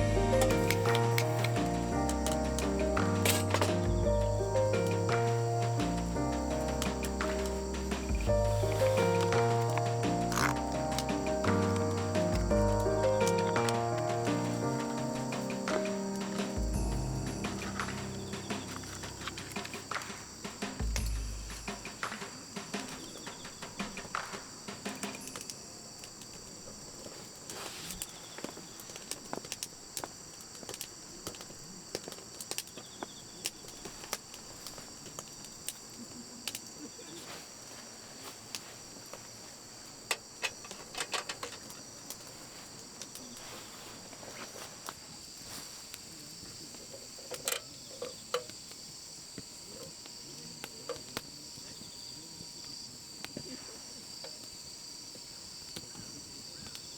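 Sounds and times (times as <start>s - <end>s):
campfire crackling: 0.0s - 53.6s
crickets trilling: 0.0s - 56.9s.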